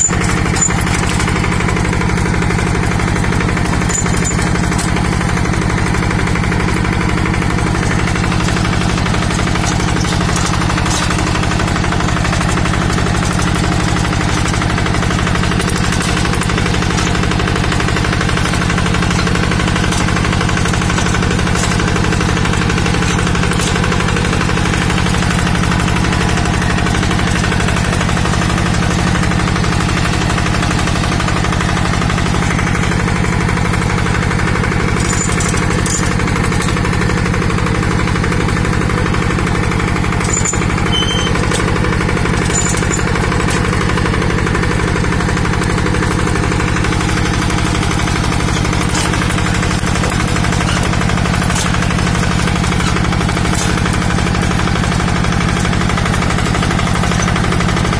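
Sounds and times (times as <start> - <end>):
hand tractor diesel engine chugging: 0.0 - 57.9.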